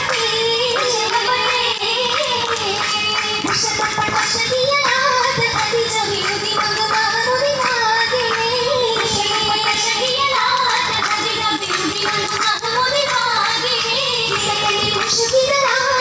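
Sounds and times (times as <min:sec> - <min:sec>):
hand claps: 0:00.0 - 0:16.0
person singing over music: 0:00.0 - 0:16.0.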